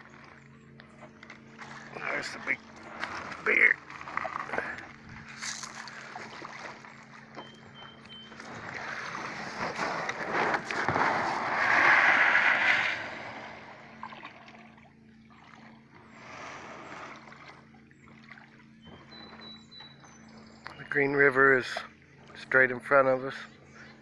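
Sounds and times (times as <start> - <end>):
river water sloshing and splashing: 0.0 - 24.0.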